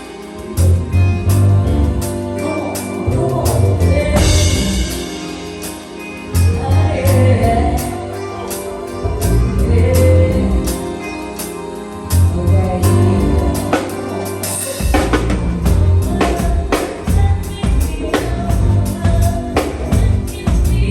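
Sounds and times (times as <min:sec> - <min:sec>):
bass: 0:00.0 - 0:20.9
percussion steady beat: 0:00.0 - 0:20.9
person singing: 0:00.0 - 0:20.9.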